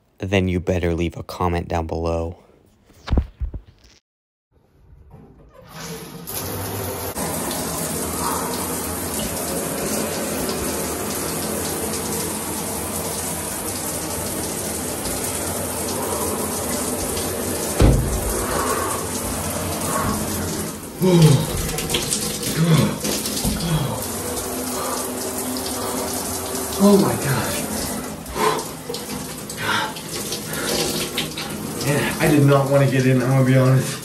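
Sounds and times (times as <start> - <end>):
shower water spray hissing: 6.0 - 34.0.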